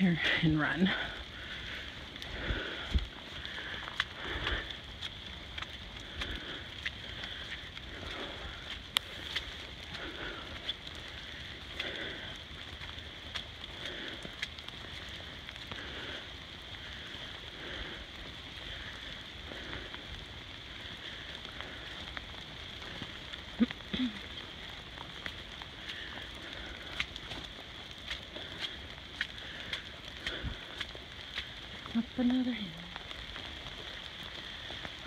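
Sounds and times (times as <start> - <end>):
footsteps on muddy trail: 0.0 - 35.0
rain falling: 0.0 - 35.0.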